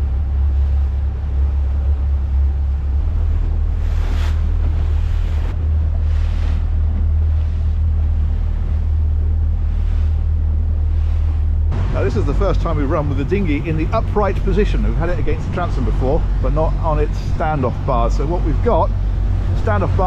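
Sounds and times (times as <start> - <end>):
boat engine drone: 0.0 - 20.0
water rushing past hull: 0.0 - 20.0
wind buffeting microphone: 0.0 - 20.0.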